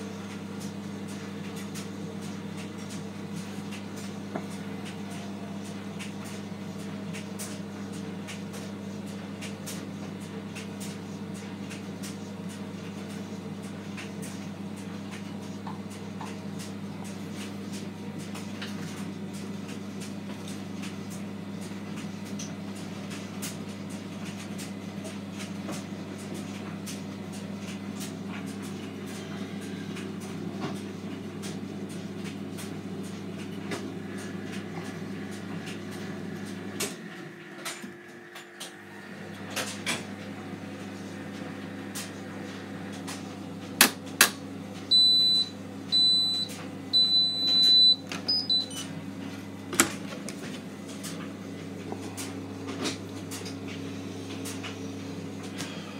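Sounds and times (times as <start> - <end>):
washing machine motor hum: 0.0 - 55.9.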